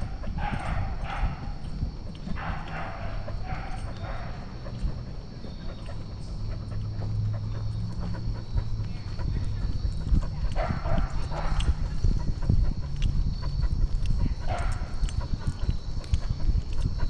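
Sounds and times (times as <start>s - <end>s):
husky breathing hard: 0.0s - 17.0s.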